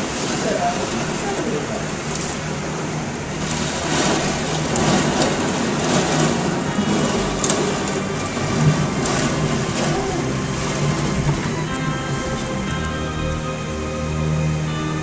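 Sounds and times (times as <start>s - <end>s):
torrential rain: 0.0s - 15.0s
wind: 0.0s - 15.0s.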